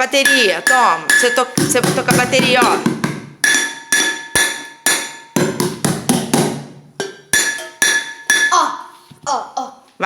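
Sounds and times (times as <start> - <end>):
child banging on drum kit: 0.2 - 8.8.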